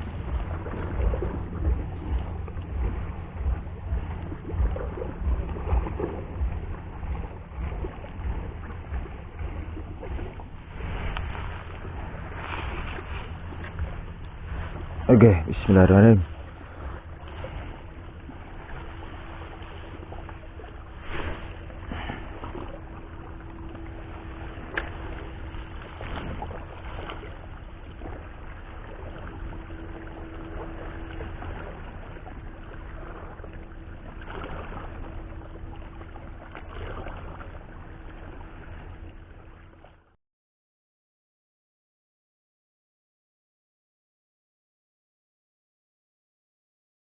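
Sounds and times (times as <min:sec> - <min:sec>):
boat engine droning: 0:00.0 - 0:40.2
water noise: 0:00.0 - 0:40.2
wind: 0:00.0 - 0:40.2.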